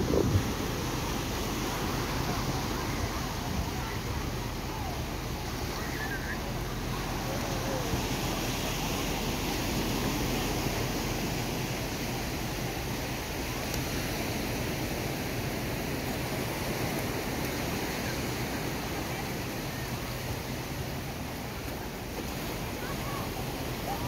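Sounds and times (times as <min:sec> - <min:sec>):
surf washing onto sand: 0:00.0 - 0:24.0.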